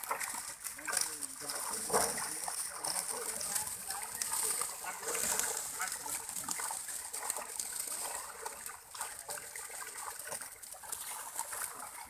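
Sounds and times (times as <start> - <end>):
fish splashing in a net: 0.0 - 12.0
water running off a basket: 0.0 - 12.0.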